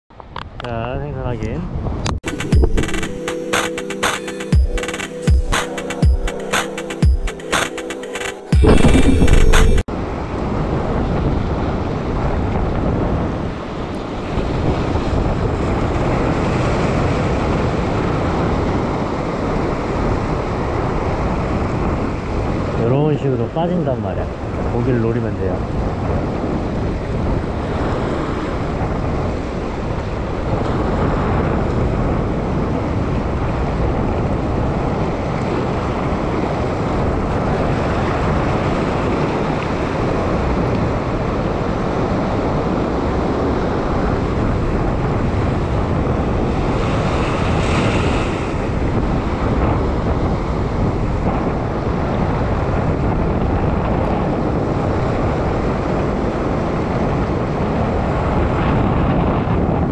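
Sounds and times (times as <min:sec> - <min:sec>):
wind buffeting microphone: 0:08.6 - 0:59.9.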